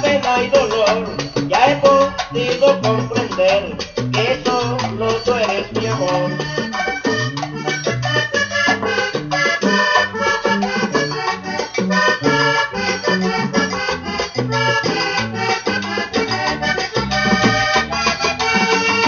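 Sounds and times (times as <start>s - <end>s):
accordion dance music: 0.0s - 19.0s
bouncing bass line: 0.0s - 19.0s.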